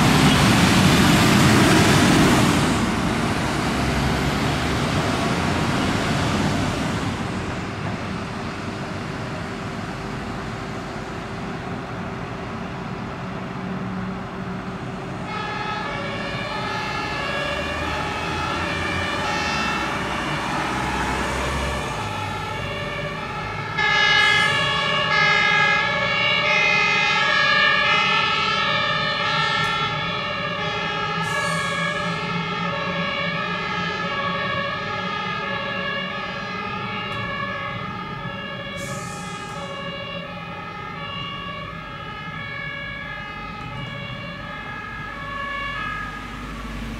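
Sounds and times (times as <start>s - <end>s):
diesel engines pulling away: 0.0s - 46.9s
two-tone sirens: 0.0s - 46.9s.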